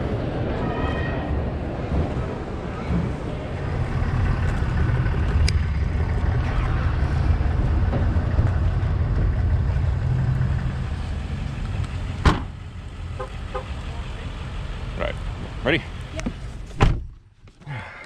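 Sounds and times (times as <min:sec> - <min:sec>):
vehicle engine and road noise: 0:00.0 - 0:17.6.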